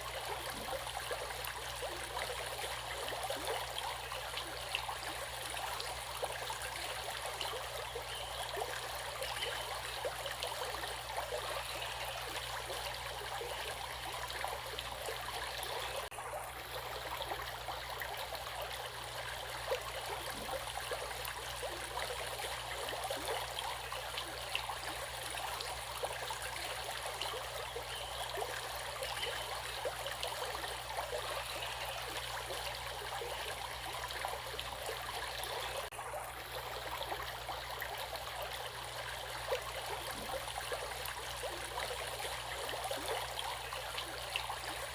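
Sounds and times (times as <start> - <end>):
water babbling over stones: 0.0 - 44.9.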